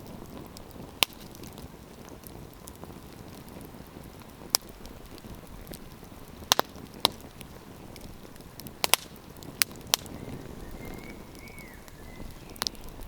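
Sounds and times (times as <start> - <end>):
campfire wood crackling: 0.0 - 13.0
hiss of burning fire: 0.0 - 13.0
sharp fire pops: 0.0 - 13.0.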